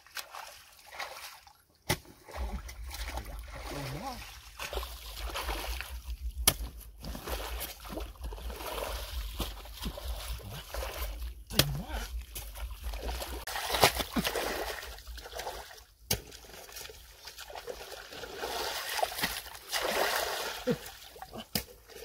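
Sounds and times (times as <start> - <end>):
muddy water sloshing: 0.0 - 22.0.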